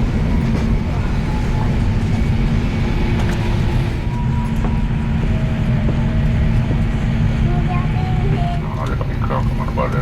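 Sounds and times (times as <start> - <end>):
constant hum: 0.0 - 10.0.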